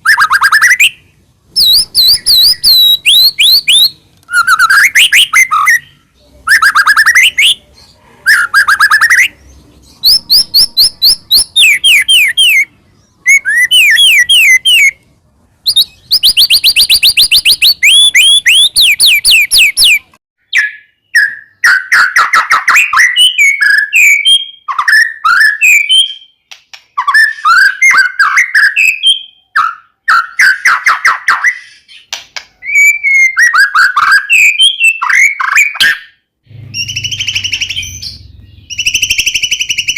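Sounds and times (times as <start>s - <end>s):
bird singing loudly: 0.0s - 15.0s, 15.6s - 26.4s, 27.0s - 39.9s.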